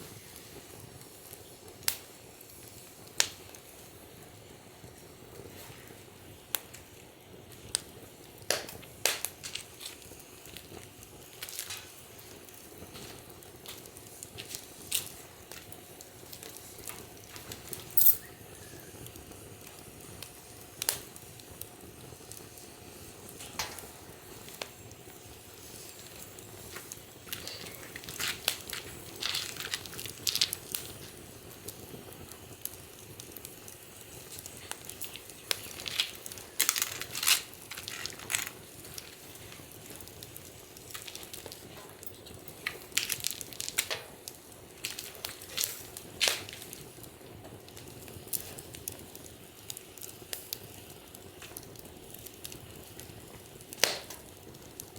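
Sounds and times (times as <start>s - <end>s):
faint steady hiss: 0.0s - 54.9s
wood fire crackling and popping: 0.0s - 54.9s.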